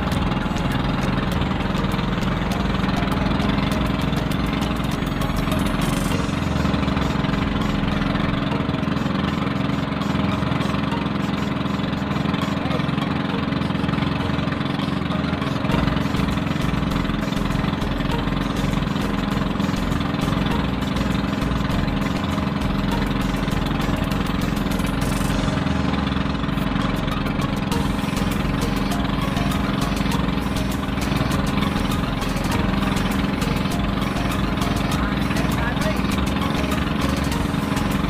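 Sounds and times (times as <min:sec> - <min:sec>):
small boat engine running: 0:00.0 - 0:38.0.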